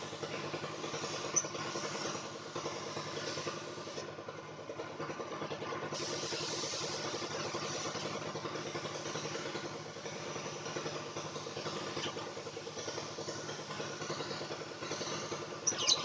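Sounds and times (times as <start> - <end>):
hiss: 0.0 - 16.0
small motor running: 0.0 - 16.0.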